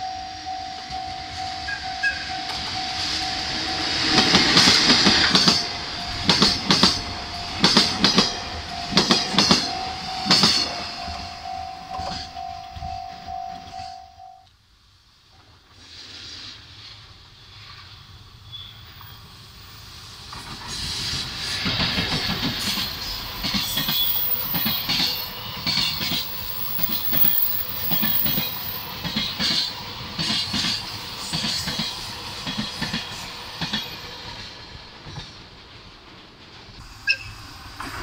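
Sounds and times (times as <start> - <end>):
electric locomotive passing: 0.0 - 14.4, 16.7 - 38.0
wheels clickety-clack over rail joints: 0.9 - 13.3, 19.8 - 38.0.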